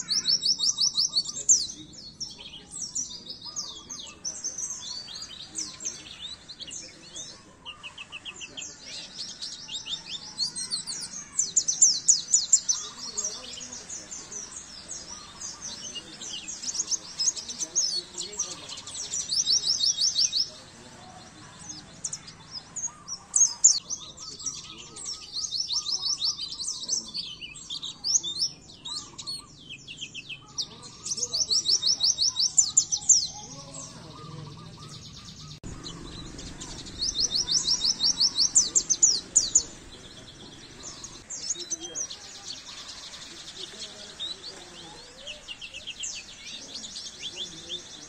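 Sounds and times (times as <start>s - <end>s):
bird chirps: 0.0s - 48.0s.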